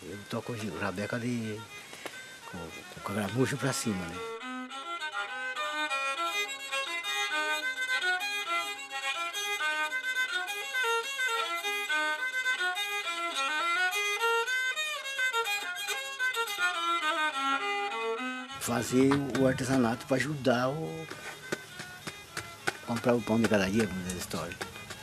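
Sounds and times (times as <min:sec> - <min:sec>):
fiddle melody: 0:00.0 - 0:25.0.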